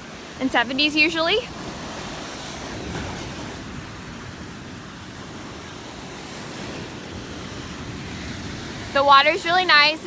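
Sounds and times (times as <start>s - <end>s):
surf washing onto beach: 0.0s - 10.0s
wind buffeting microphone: 0.0s - 10.0s.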